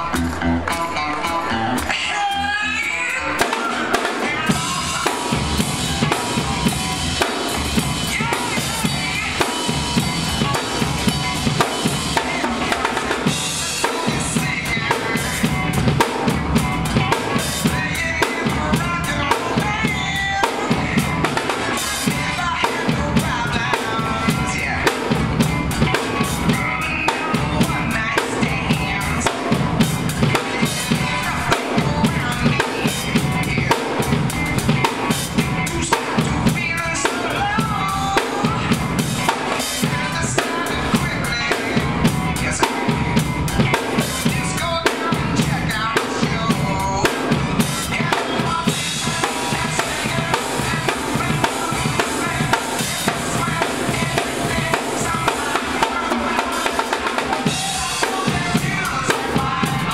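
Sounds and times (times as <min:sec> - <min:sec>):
drum kit groove: 0:00.0 - 0:59.9.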